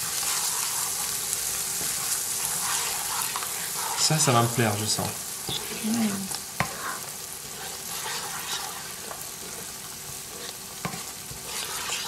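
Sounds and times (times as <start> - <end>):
sauce sizzling in a frying pan: 0.0 - 12.0
spatula stirring and scraping: 0.0 - 12.0.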